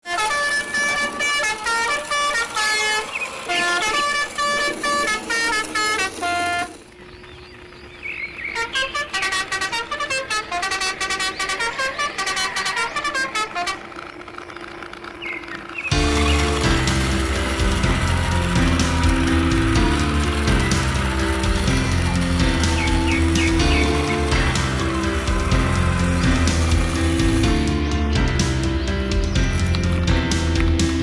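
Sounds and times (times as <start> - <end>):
jaunty horn-like tune: 0.0 - 6.9, 8.6 - 15.2, 15.9 - 30.9.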